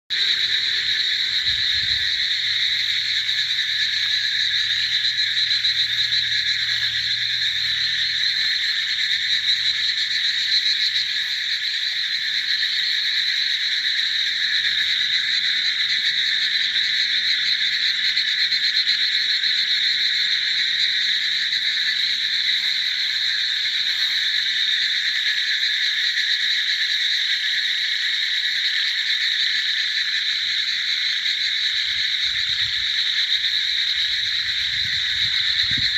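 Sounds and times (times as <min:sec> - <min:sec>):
chorus of frogs calling: 0:00.1 - 0:35.9.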